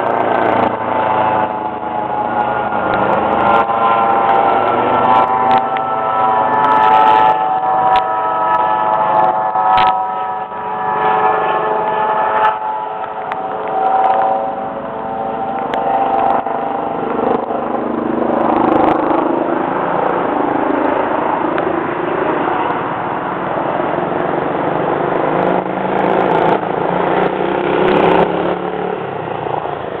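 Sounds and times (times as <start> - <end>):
helicopter flying by: 0.0 - 30.0.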